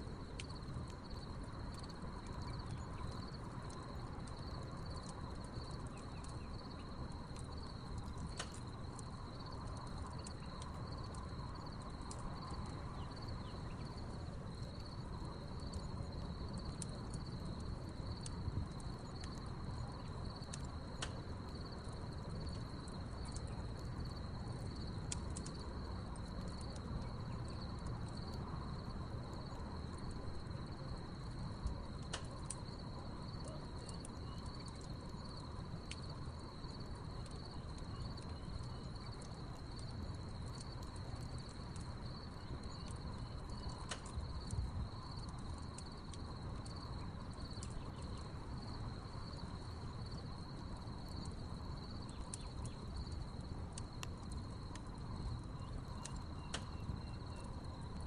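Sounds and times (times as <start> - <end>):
crickets chirping: 0.0 - 58.0
wood fire crackling and popping: 0.0 - 58.0.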